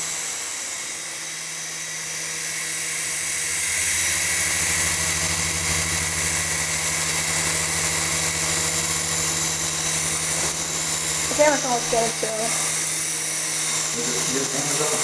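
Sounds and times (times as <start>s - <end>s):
remote-control helicopter flying: 0.0s - 15.0s.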